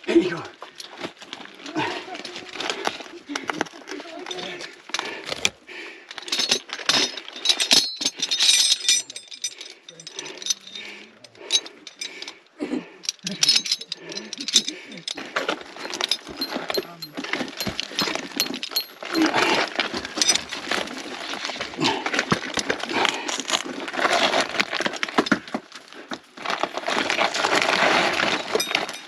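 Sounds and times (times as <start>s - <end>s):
rope and gear rustling: 0.0s - 29.0s
metal carabiners clinking: 0.6s - 29.0s.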